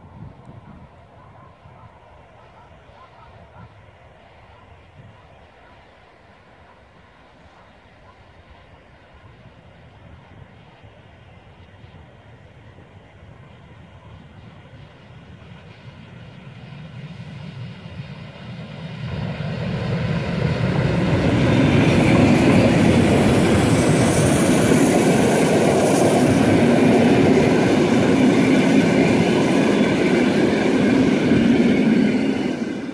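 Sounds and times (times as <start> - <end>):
steam locomotive passing: 0.0 - 32.9.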